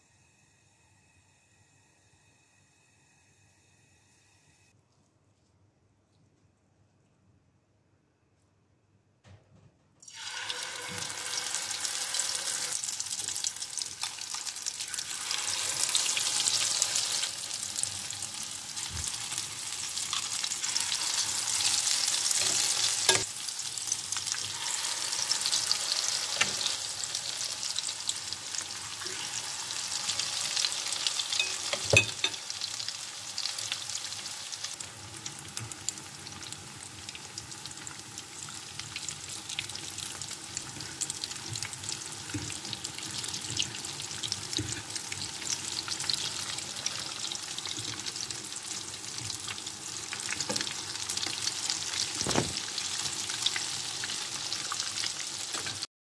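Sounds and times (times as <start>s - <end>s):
batter sizzling in frying oil: 10.0s - 55.9s.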